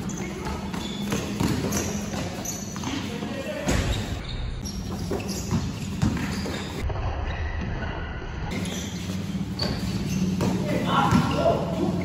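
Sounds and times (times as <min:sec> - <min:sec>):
din of gym hall: 0:00.0 - 0:12.0.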